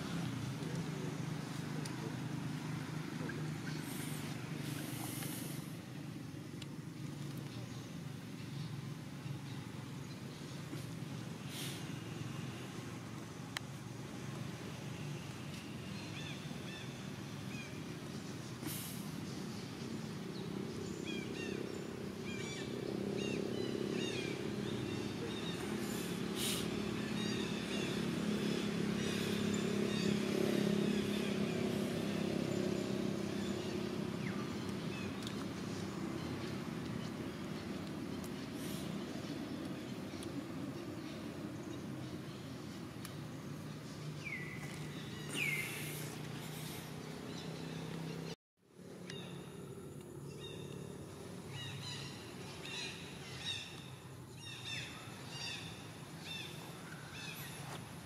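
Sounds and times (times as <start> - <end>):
passing vehicle engine hum: 0.0 - 53.9.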